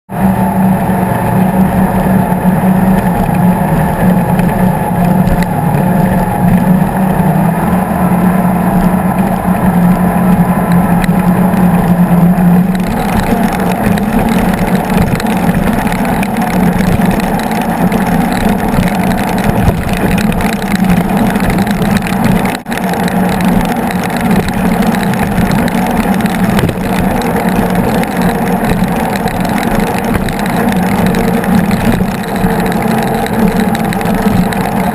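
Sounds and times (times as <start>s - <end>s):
powerboat engines droning: 0.1s - 34.9s
rushing wind and water: 0.1s - 34.9s.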